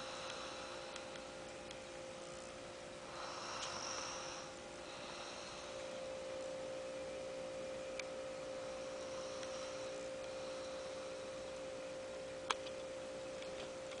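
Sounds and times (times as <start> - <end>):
background hiss: 0.0 - 14.0
steady hum: 0.0 - 14.0.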